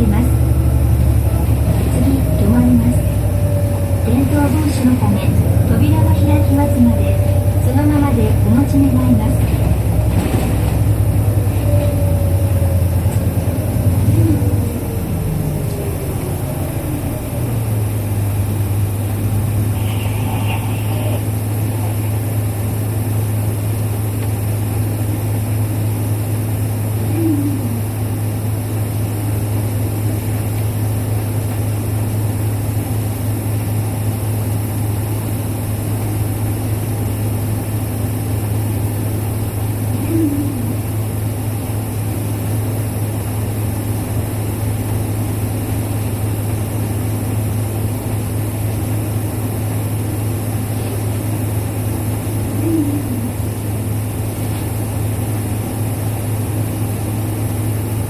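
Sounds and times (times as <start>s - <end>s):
bus diesel engine whining and idling: 0.0s - 58.0s.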